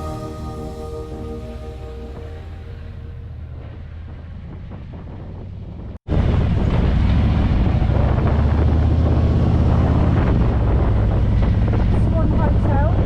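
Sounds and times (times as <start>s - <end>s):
motorcycle engine drone: 0.0s - 13.0s
wind buffeting microphone: 2.0s - 13.0s.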